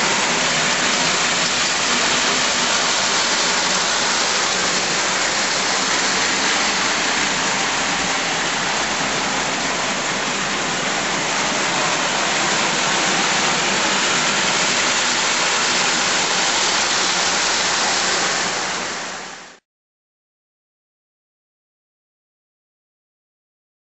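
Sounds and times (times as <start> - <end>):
toy train wheels rolling on rails: 0.0 - 19.3.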